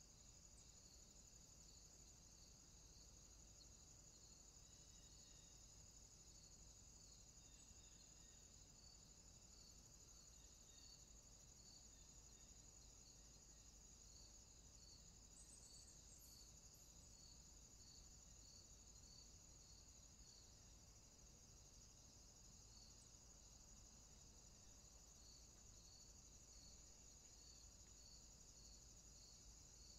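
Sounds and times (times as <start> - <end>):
high-pitched cricket trill: 0.0 - 29.9.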